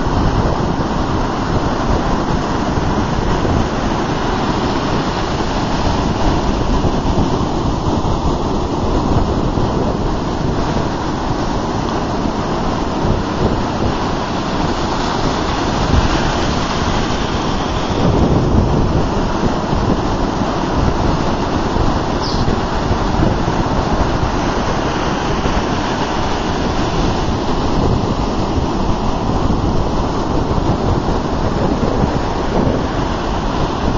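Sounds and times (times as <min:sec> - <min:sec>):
ocean surf breaking: 0:00.0 - 0:33.9.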